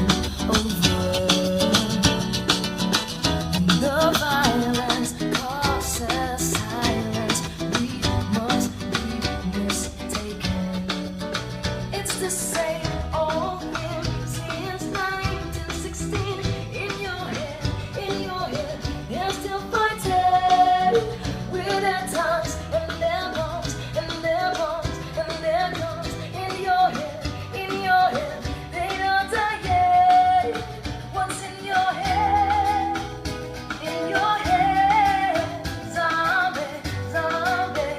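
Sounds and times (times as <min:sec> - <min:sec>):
song with singing and guitar: 0:00.0 - 0:37.9.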